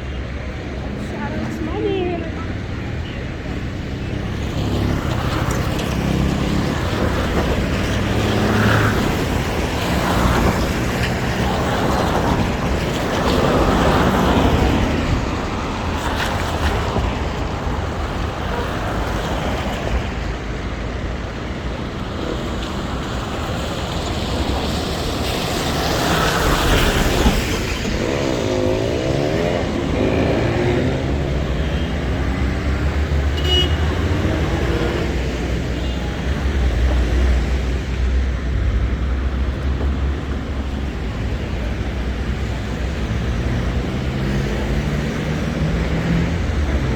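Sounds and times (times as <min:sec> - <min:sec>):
traffic engines rumbling: 0:00.0 - 0:46.9
tyres hissing on wet road: 0:00.3 - 0:46.9.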